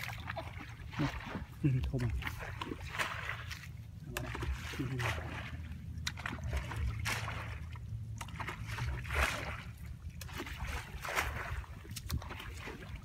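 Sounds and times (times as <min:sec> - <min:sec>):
low steady rumble: 0:00.0 - 0:13.0
water sloshing from wading: 0:00.0 - 0:13.0.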